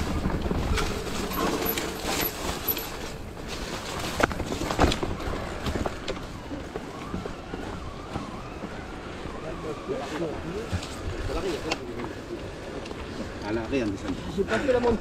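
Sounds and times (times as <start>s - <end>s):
bike rattling over rough ground: 0.0s - 15.0s.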